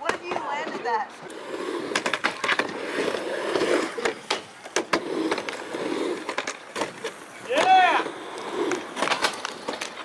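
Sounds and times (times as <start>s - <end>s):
skateboard clacking on coping: 0.0s - 10.0s
skateboard wheels rumbling: 0.0s - 10.0s.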